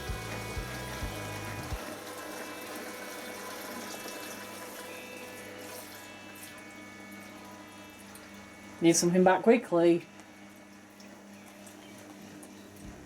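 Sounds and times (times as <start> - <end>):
washing machine hum: 0.0 - 13.0.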